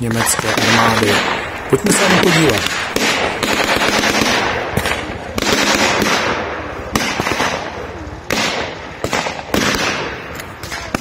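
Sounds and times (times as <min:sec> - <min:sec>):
blank gunshots echoing: 0:00.0 - 0:11.0.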